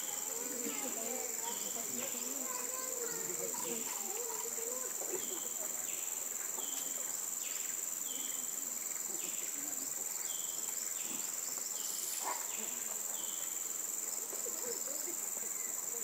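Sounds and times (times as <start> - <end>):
insects droning: 0.0 - 16.0
short insect call: 0.0 - 16.0.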